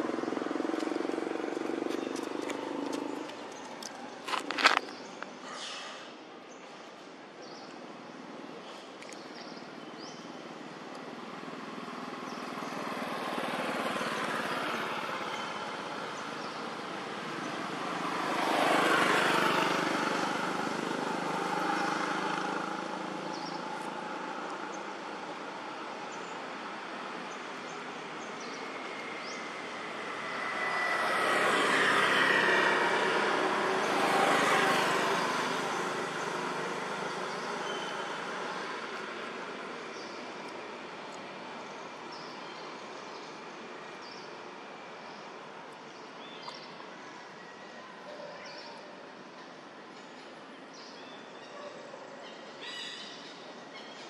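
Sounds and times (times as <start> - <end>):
vehicles passing by: 0.0 - 54.0.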